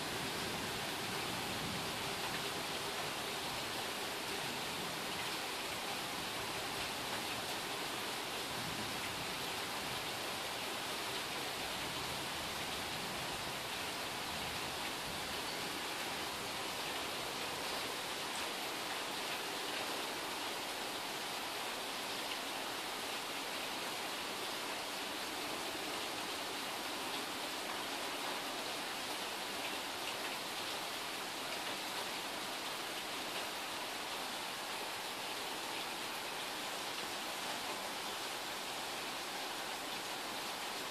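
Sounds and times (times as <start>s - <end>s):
rain falling steadily: 0.0s - 40.9s.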